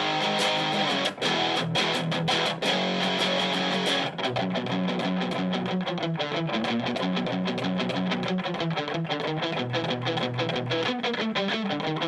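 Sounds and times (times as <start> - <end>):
electric guitar picked notes: 0.0 - 12.0.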